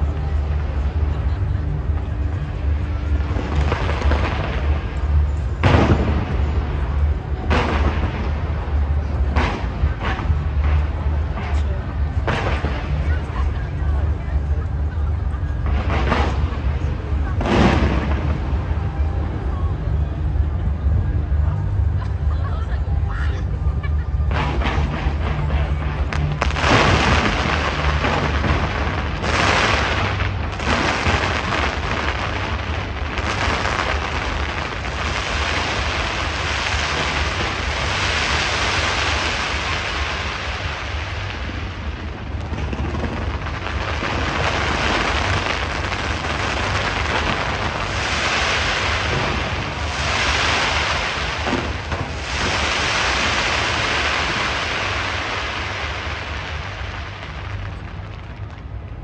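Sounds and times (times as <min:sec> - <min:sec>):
deep rumble: 0:00.0 - 0:59.0
fireworks bangs and crackles: 0:00.0 - 0:59.0.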